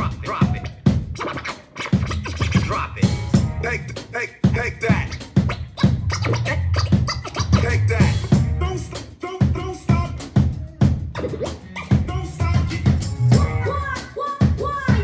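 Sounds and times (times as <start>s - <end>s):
band playing up-tempo music: 0.0s - 15.0s
steady drum beat: 0.0s - 15.0s
bass line: 2.0s - 15.0s.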